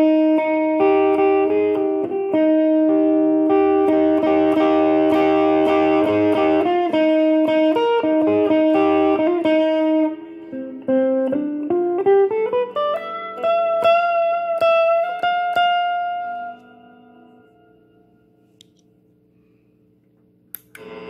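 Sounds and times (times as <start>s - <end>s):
electric guitar: 0.0s - 18.6s, 20.6s - 21.0s.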